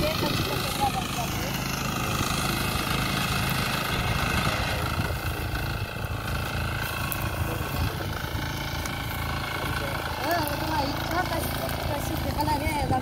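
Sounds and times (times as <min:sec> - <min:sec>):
reaper engine running: 0:00.0 - 0:13.0.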